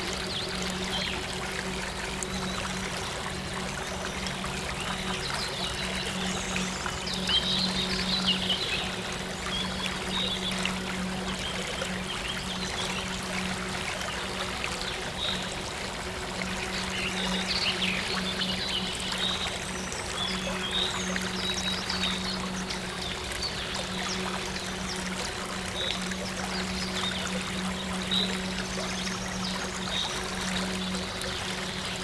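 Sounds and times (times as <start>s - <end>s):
low synth drone: 0.0s - 32.0s
stream trickling: 0.0s - 32.0s.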